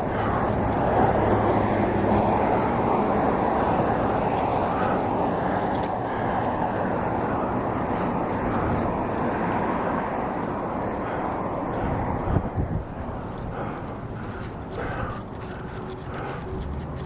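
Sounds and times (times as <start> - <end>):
wind rushing across microphone: 0.0 - 17.0.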